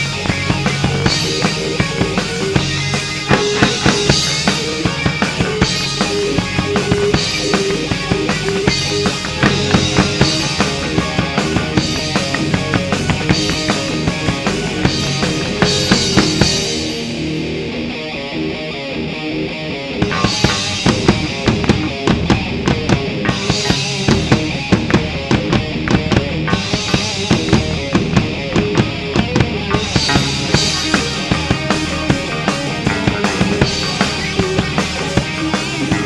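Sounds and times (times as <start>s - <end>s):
drum kit beat: 0.0s - 17.8s, 20.0s - 36.0s
electric guitars: 0.0s - 36.0s
rock band playing: 0.0s - 36.0s.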